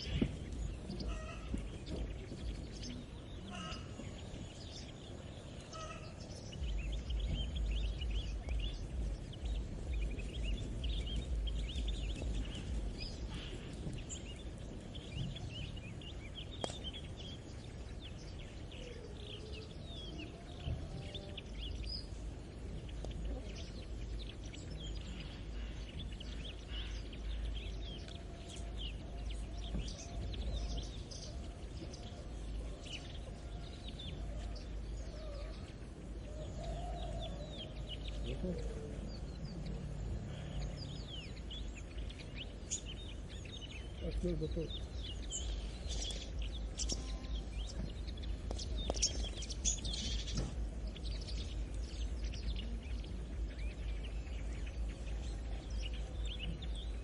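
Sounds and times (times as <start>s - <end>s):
low gliding bird calls: 0.0s - 57.0s
low rumble: 0.0s - 57.0s
small birds chirping: 0.0s - 57.0s.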